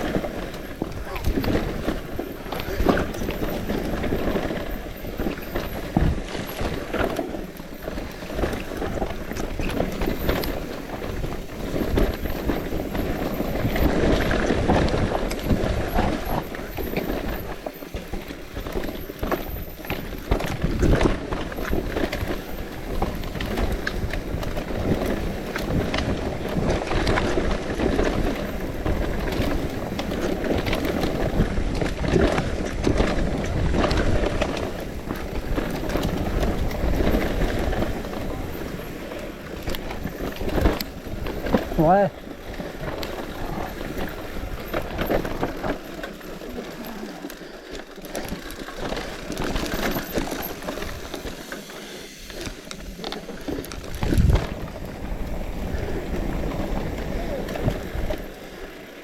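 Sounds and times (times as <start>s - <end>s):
bike rattling and knocking: 0.0s - 59.0s
bike tyres rumbling on dirt: 0.0s - 59.0s.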